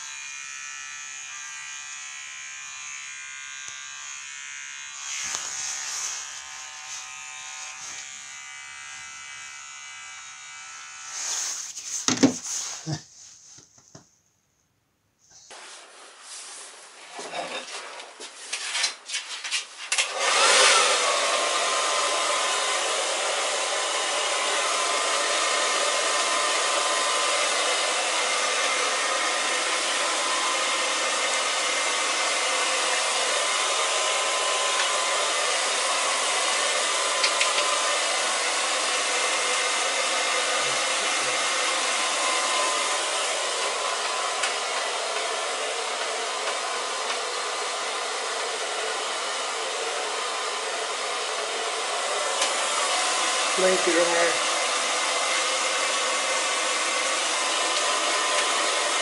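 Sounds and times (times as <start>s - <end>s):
hair dryer whining: 0.0s - 13.8s, 19.8s - 59.0s.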